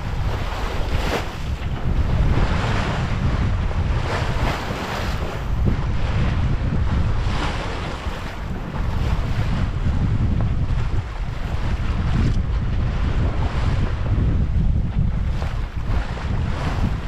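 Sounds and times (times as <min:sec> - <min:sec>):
bow wave splashing along hull: 0:00.0 - 0:17.0
wind buffeting microphone: 0:00.0 - 0:17.0.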